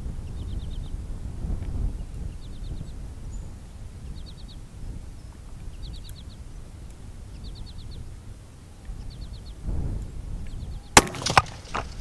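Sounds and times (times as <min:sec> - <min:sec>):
songbird singing: 0:00.0 - 0:12.0
wind rumble on microphone: 0:00.0 - 0:12.0.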